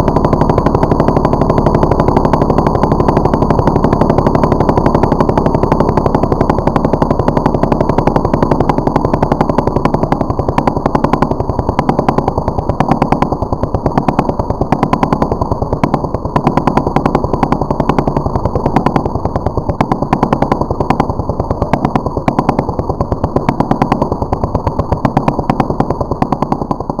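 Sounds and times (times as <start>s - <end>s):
model diesel engine popping: 0.0s - 27.0s.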